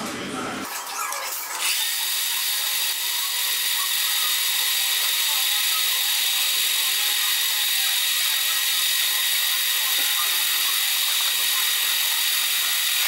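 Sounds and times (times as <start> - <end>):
lathe running with high whine: 1.7 - 13.0.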